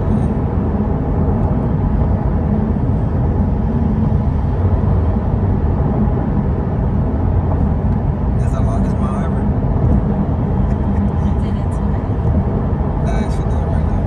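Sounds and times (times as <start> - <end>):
car engine drone in cabin: 0.0 - 14.0
tyre and road noise: 0.0 - 14.0.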